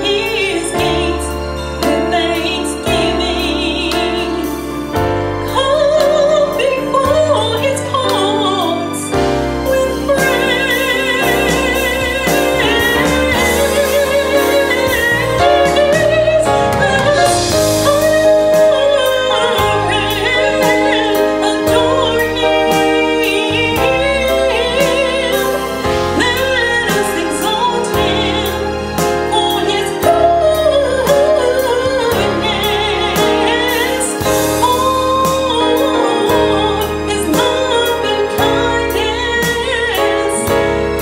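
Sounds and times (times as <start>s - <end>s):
woman singing gospel solo: 0.0s - 40.7s
instrumental accompaniment: 0.0s - 41.0s.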